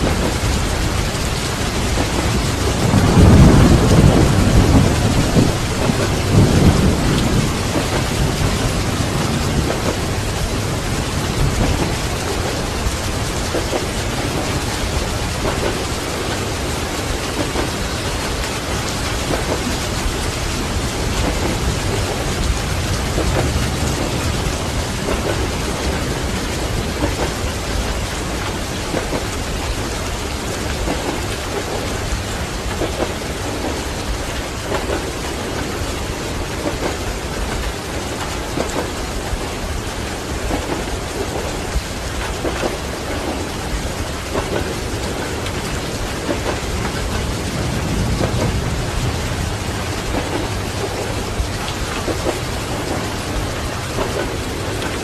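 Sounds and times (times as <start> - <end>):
heavy rain: 0.0 - 55.0
thunder rumbling: 0.0 - 55.0.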